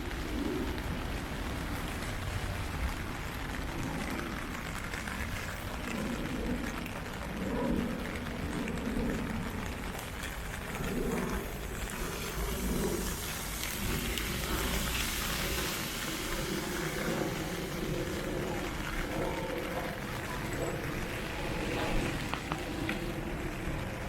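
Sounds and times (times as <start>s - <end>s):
heavy rain falling: 0.0s - 24.0s
low rumble: 0.0s - 24.0s.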